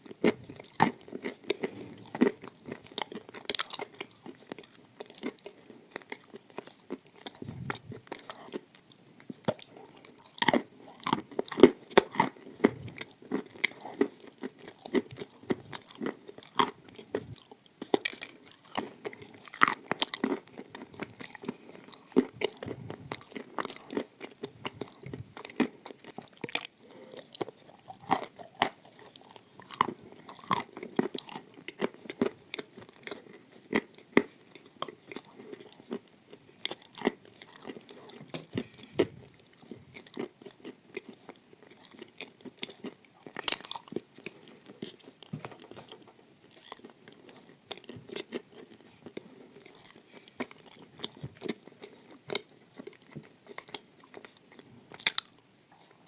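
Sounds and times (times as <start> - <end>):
crunchy biting and chewing: 0.0 - 56.0.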